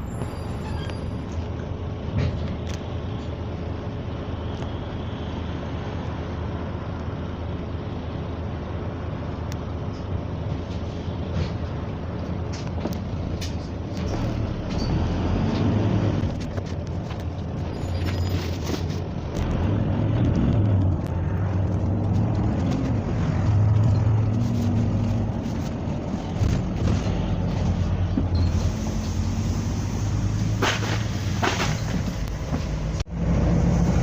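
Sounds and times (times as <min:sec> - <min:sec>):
bus engine drone: 0:00.0 - 0:34.0
road rumble: 0:00.0 - 0:34.0.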